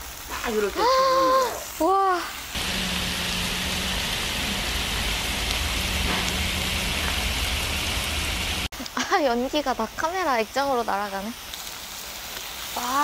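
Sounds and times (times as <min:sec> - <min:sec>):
pork fat sizzling on grill: 0:00.0 - 0:13.0.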